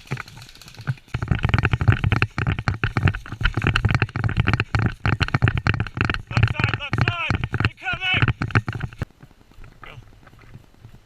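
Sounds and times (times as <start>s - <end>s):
knocking and rustling close up: 0.0s - 11.0s.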